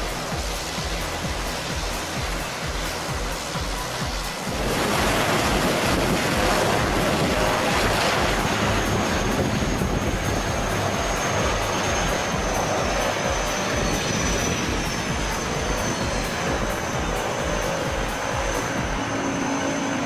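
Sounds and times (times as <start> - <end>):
airplane engines roaring: 0.0 - 20.0
high engine whine: 0.0 - 20.0.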